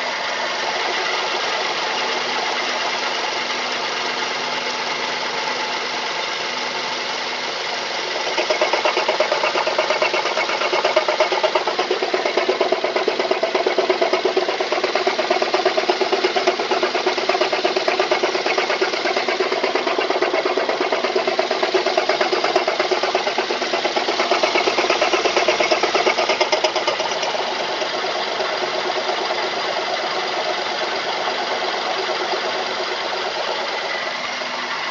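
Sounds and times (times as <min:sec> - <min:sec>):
car engine running: 0:00.0 - 0:34.9
fast ticking engine knock: 0:00.6 - 0:03.9, 0:07.9 - 0:34.9.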